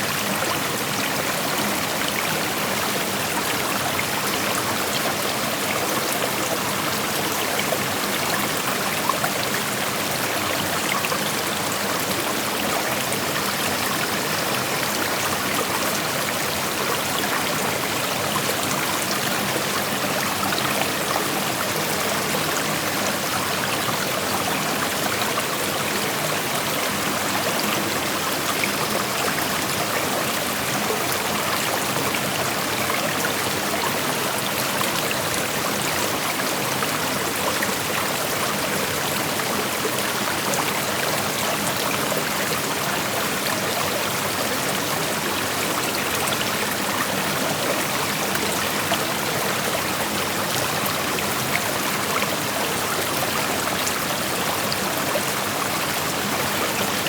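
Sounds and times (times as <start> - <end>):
creek water rushing over stones: 0.0 - 57.0.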